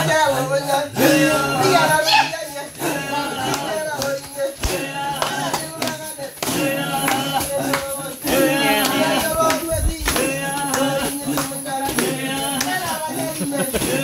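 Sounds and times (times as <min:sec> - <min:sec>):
group singing a rhythmic chant: 0:00.0 - 0:14.0.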